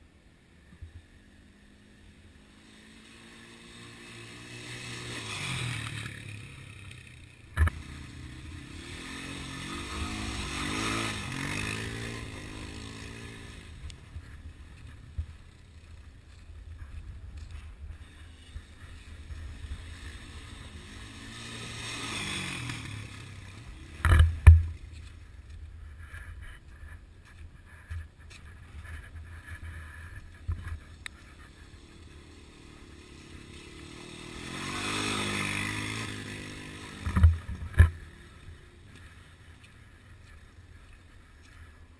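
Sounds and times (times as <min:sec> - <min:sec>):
quad bike engine revving: 0:01.2 - 0:25.1, 0:27.8 - 0:40.4.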